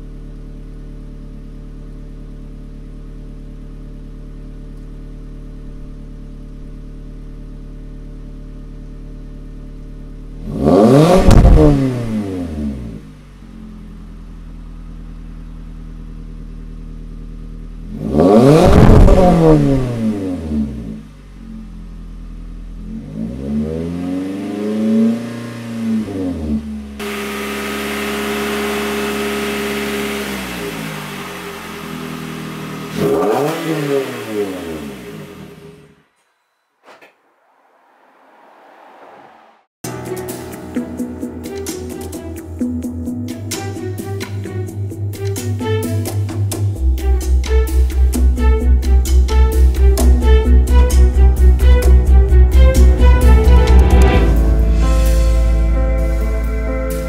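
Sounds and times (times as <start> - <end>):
car engine idling and revving: 0.0 - 36.1, 40.8 - 57.0.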